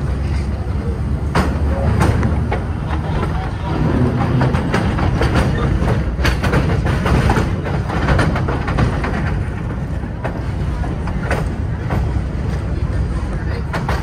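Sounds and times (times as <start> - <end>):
train wheels rumbling on rail: 0.0 - 14.0
wheels clicking over rail joints: 0.0 - 14.0.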